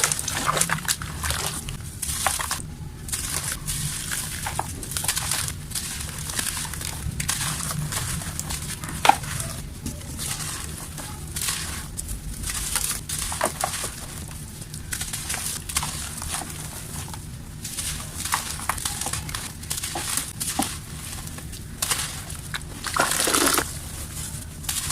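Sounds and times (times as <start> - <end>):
dry mud crumbling and crunching: 0.0 - 24.9
steady low hum: 0.0 - 24.9.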